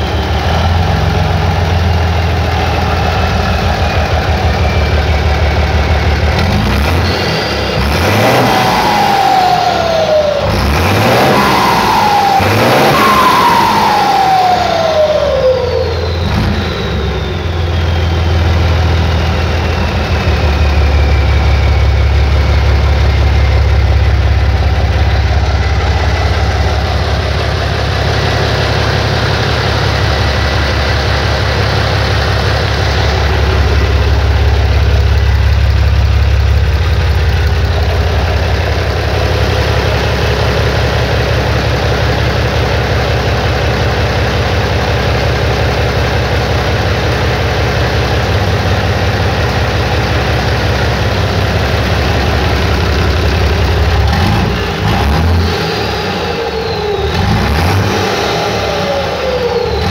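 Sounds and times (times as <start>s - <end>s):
turbo whistle spinning down: 0.0s - 42.4s, 50.0s - 59.9s
diesel engine revving and idling: 0.0s - 59.9s.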